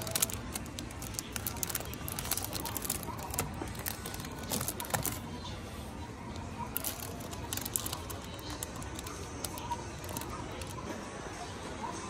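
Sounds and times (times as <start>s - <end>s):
plastic film crinkling: 0.0s - 5.4s, 6.3s - 11.0s
shop hum: 0.0s - 12.0s.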